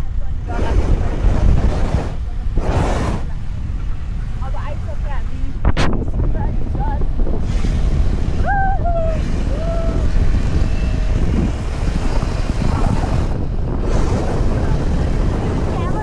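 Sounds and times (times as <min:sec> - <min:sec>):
low road rumble: 0:00.0 - 0:16.0
wind buffeting microphone: 0:00.0 - 0:16.0.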